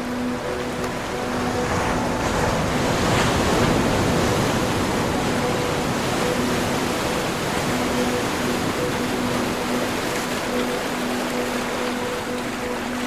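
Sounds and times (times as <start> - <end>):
ocean wave breaking: 0.0 - 13.0
water washing ashore: 0.0 - 13.0.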